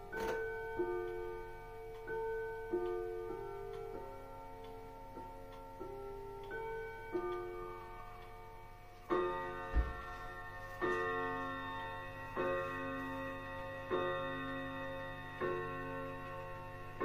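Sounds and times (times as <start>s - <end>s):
clock striking: 0.0s - 17.0s.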